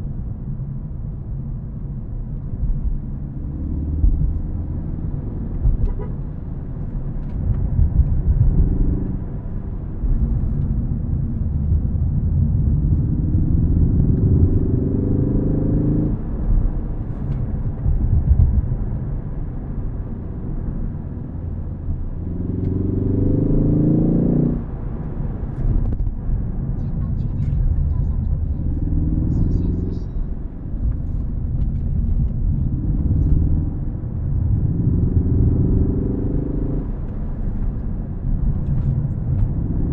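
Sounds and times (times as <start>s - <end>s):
road and tyre rumble: 0.0s - 39.9s
car engine revving: 2.8s - 39.9s.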